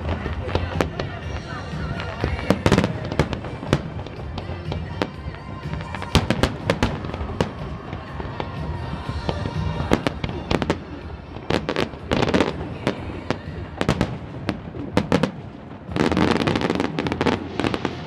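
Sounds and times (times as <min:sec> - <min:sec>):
fireworks bangs and crackles: 0:00.0 - 0:18.0
music: 0:00.0 - 0:18.0.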